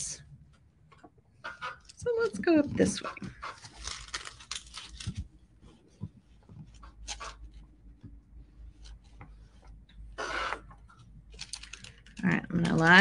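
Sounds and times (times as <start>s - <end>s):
paper rustling: 1.8s - 9.8s, 10.4s - 13.0s.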